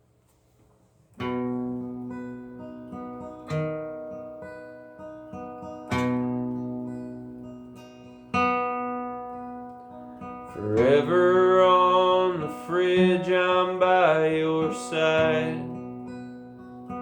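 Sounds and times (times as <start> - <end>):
acoustic guitar strumming: 1.1 - 17.0.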